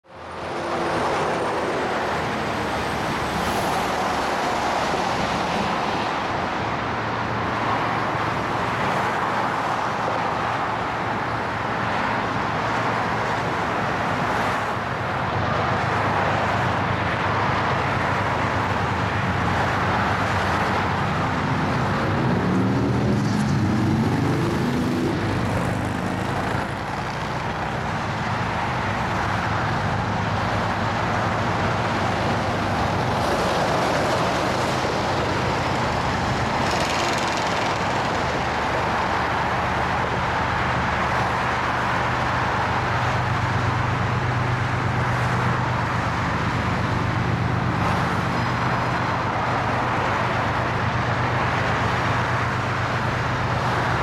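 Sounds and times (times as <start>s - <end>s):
diesel locomotives humming: 0.0s - 54.0s
freeway traffic noise: 0.0s - 54.0s.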